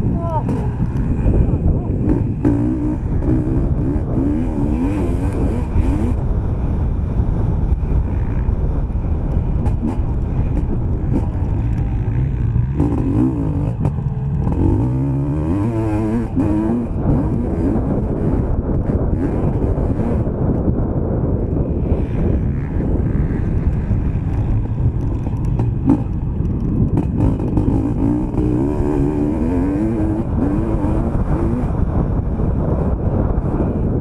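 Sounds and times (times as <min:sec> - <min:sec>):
motocross bike engine revving: 0:00.2 - 0:06.2, 0:09.6 - 0:20.5, 0:21.6 - 0:33.9.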